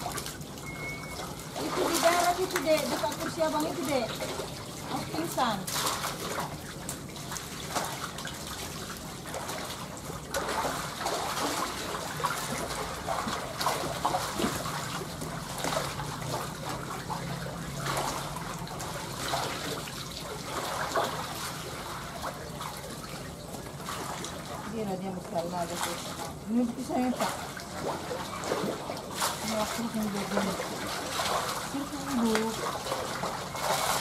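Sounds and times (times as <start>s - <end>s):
muddy water splashing: 0.0s - 34.0s.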